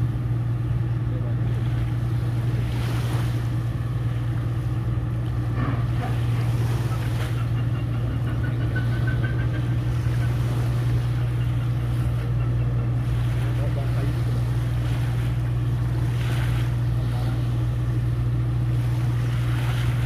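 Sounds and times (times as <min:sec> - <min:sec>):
small waves washing on shore: 0:00.0 - 0:20.0
tugboat diesel engines droning: 0:00.0 - 0:20.0.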